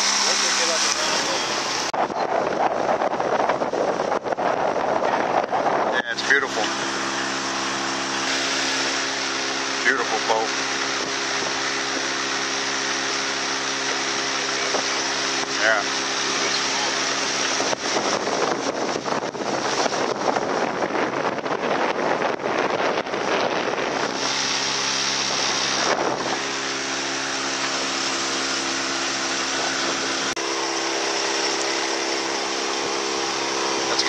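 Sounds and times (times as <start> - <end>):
boat engine running: 0.0 - 34.0
water rushing past hull: 0.0 - 34.0
wind buffeting microphone: 0.0 - 34.0.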